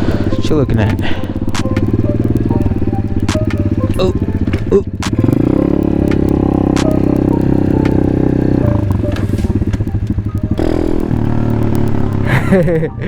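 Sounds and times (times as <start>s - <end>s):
pit bike engine revving: 0.0s - 12.8s.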